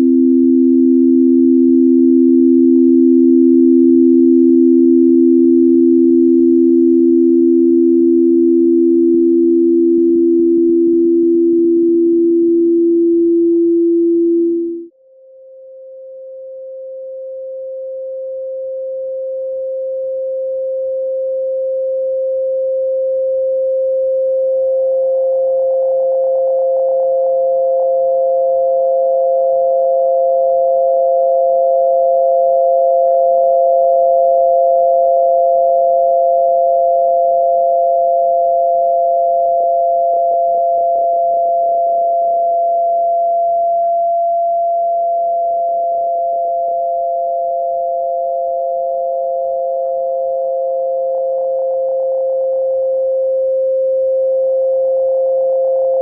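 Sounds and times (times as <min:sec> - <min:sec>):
higher pure tone: 0:00.0 - 0:56.0
low pure tone: 0:00.0 - 0:56.0.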